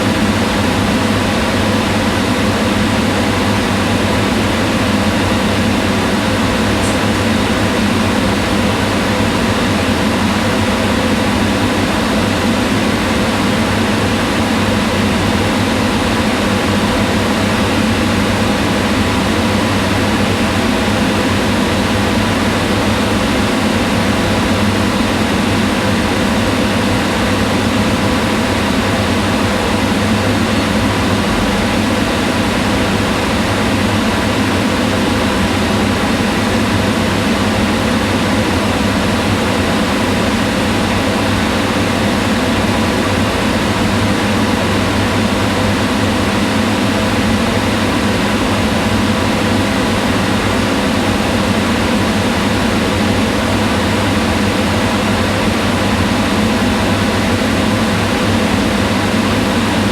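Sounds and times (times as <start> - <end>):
range hood fan whirring: 0.0 - 59.9.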